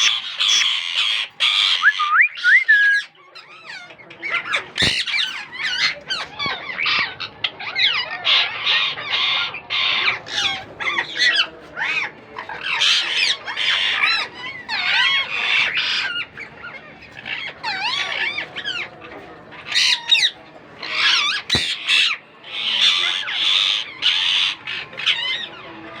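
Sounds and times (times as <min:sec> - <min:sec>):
parakeet chicks squawking: 0:00.0 - 0:26.0.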